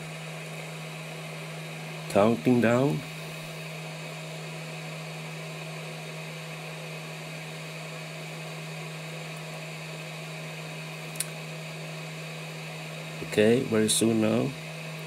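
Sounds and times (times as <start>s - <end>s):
hot air gun fan blowing: 0.0s - 15.0s.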